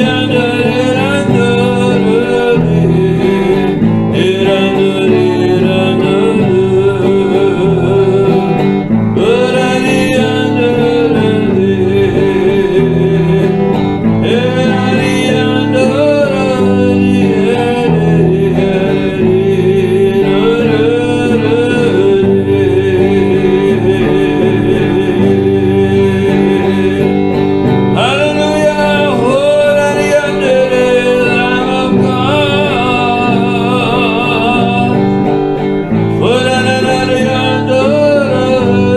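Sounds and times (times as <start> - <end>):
instrumental accompaniment: 0.0 - 38.9
person singing worship song: 0.0 - 38.9.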